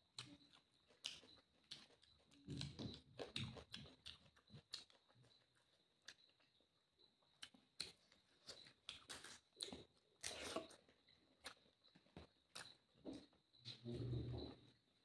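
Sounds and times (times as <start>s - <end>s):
person chewing food: 0.0s - 14.8s.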